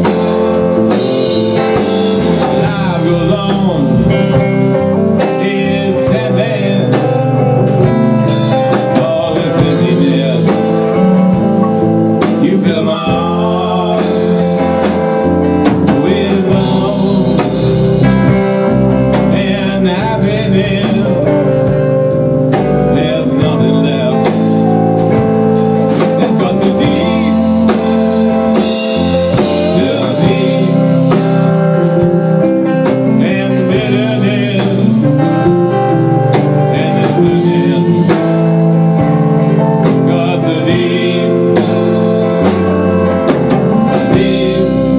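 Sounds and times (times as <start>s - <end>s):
drum kit: 0.0s - 44.9s
electric bass: 0.0s - 44.9s
electric guitars: 0.0s - 44.9s.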